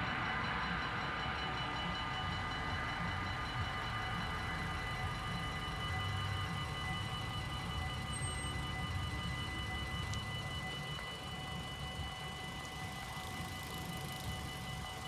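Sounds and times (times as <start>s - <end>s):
level crossing warning bells: 0.0s - 15.0s.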